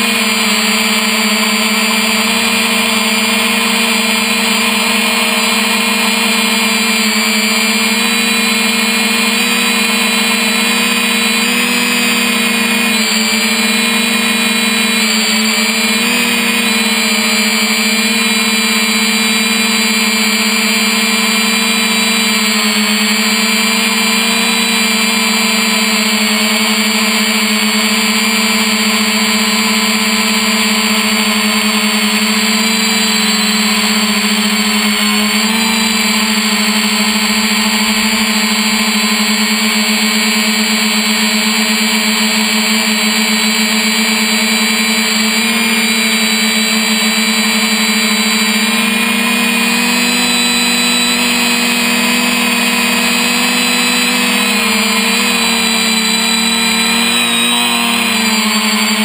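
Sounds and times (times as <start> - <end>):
drone motors buzzing: 0.0 - 59.0.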